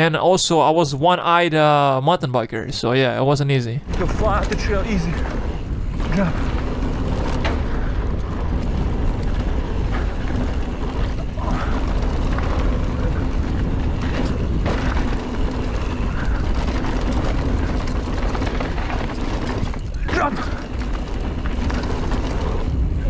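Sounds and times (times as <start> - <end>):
bike clattering over bumps: 3.8 - 23.0
mountain bike rumbling on dirt trail: 3.8 - 23.0.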